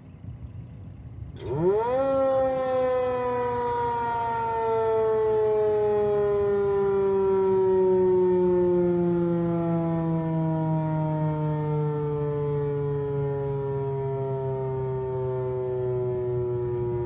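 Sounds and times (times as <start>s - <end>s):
siren winding down: 1.4s - 17.0s.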